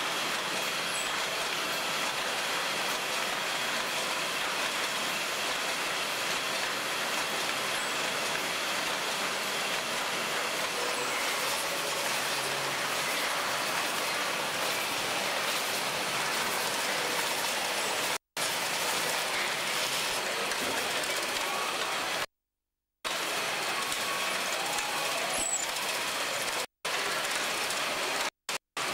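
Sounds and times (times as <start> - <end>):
packaging machinery and conveyor: 0.0 - 22.3, 23.1 - 28.9.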